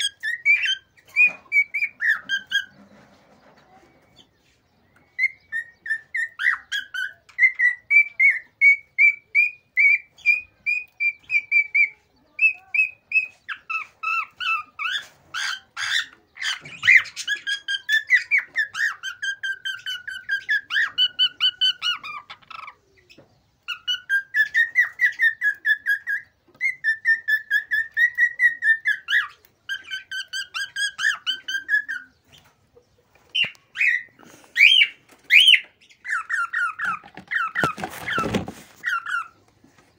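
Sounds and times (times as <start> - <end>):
cockatiel whistling song: 0.0 - 2.8, 4.0 - 32.4, 33.3 - 39.4.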